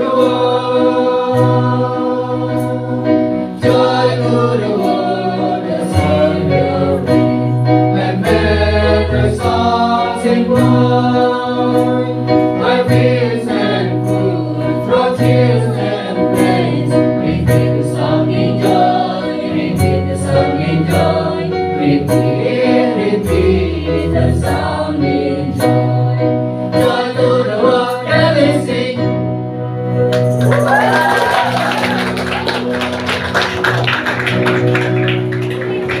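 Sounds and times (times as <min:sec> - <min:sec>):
choir singing a christmas song: 0:00.0 - 0:29.5
instrumental accompaniment: 0:00.0 - 0:36.0.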